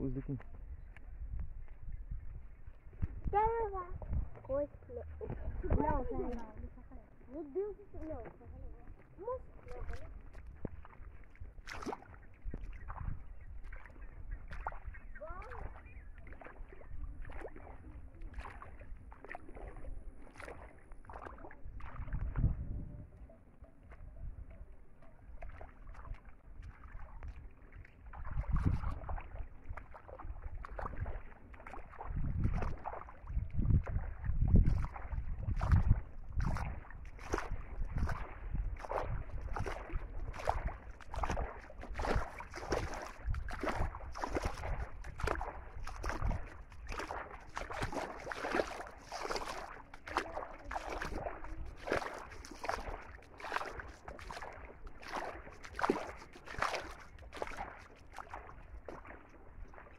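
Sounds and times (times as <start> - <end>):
feet wading through muddy water: 0.0 - 59.9.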